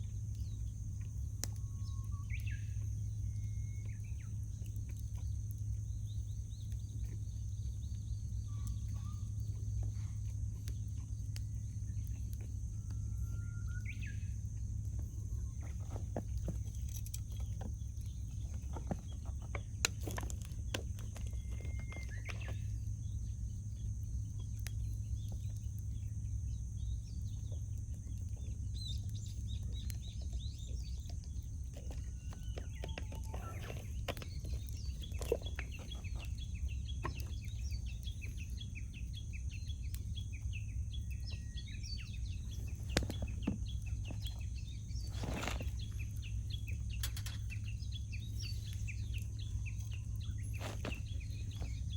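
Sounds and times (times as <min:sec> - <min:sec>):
birds chirping: 0:00.0 - 0:51.9
low steady rumble: 0:00.0 - 0:51.9
campfire crackling and popping: 0:00.1 - 0:51.9.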